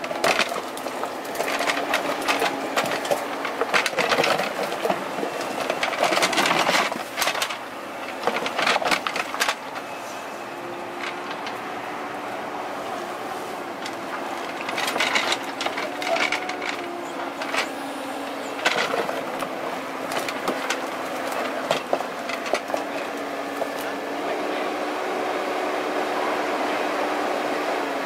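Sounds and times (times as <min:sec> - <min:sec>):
digging scraping and clicks: 0:00.0 - 0:24.0
excavator diesel engine running: 0:00.0 - 0:28.0.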